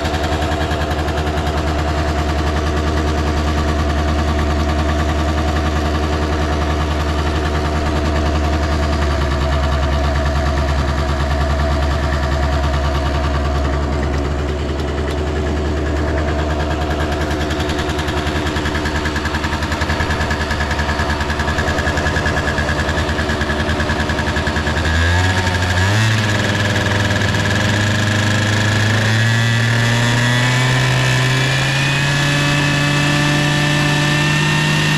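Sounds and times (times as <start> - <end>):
scooter engine idling: 0.0 - 34.9.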